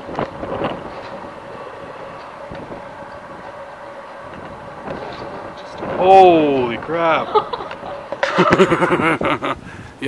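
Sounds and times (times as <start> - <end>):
faint steady hum: 0.0 - 10.0
storm wind rushing: 0.0 - 10.0.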